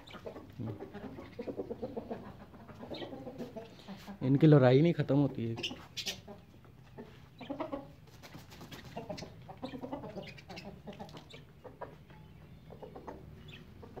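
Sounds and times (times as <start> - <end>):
hens and roosters clucking: 0.0 - 14.0.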